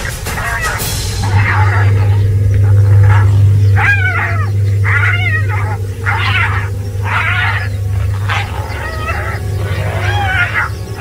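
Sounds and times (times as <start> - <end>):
hyena squealing and crying: 0.0 - 11.0
steady low rumble: 0.0 - 11.0.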